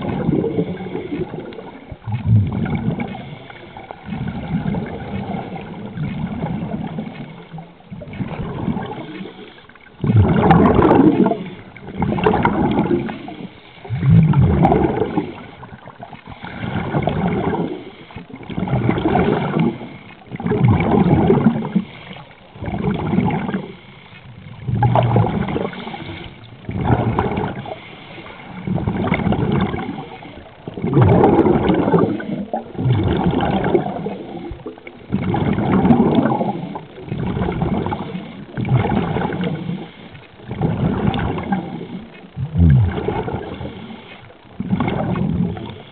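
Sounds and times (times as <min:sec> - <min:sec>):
regulator bubbling exhaust: 0:00.0 - 0:09.4, 0:10.0 - 0:17.8, 0:18.4 - 0:21.9, 0:24.3 - 0:27.8, 0:28.4 - 0:45.9.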